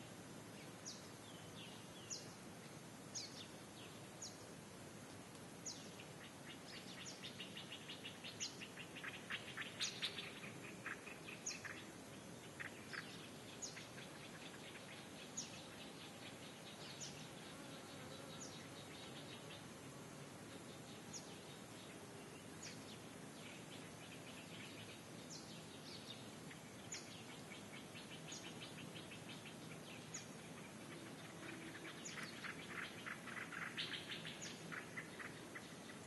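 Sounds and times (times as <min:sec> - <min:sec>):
birds chirping: 0:00.5 - 0:04.5, 0:05.6 - 0:19.7, 0:20.5 - 0:36.0.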